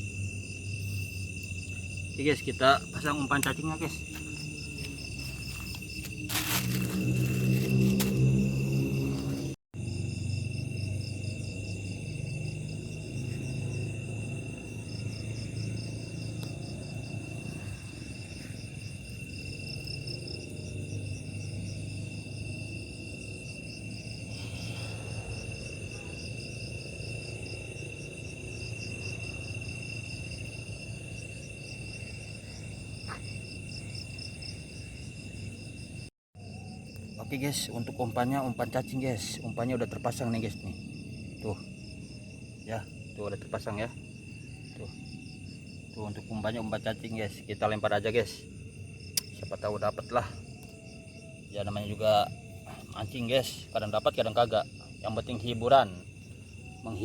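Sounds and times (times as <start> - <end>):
cricket-like trills: 0.0 - 57.0
insect high-pitched whine: 0.0 - 57.0.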